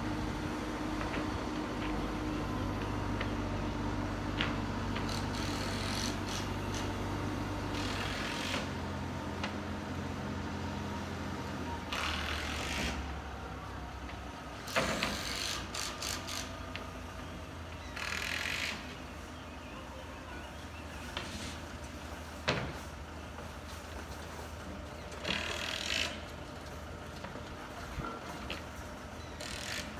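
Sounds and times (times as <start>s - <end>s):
engine low hum: 0.0s - 29.9s.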